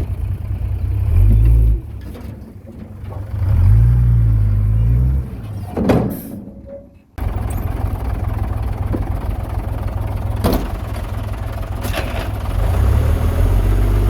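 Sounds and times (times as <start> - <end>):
diesel engine revving: 0.0 - 5.7, 7.2 - 14.0.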